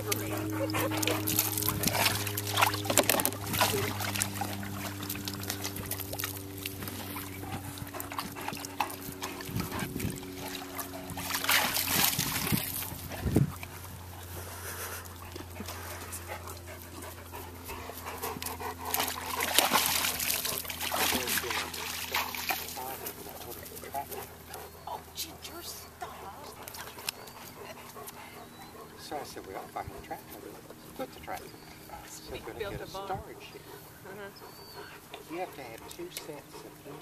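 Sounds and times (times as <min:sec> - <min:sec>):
dogs splashing in water: 0:00.0 - 0:37.0
steady low hum: 0:00.0 - 0:37.0.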